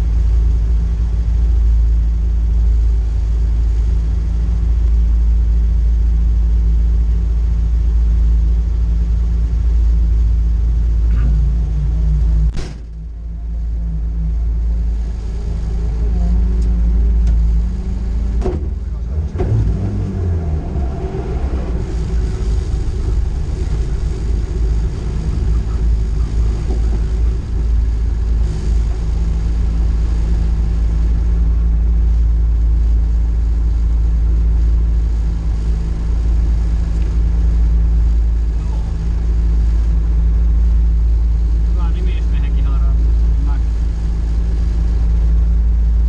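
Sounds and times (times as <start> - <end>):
car engine revving and idling: 0.0 - 46.0.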